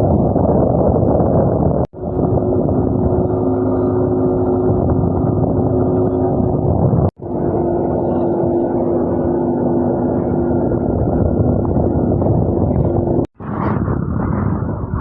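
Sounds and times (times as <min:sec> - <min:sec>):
motorboat engine running: 0:00.0 - 0:15.0
water noise: 0:00.0 - 0:15.0
wind noise: 0:00.0 - 0:15.0.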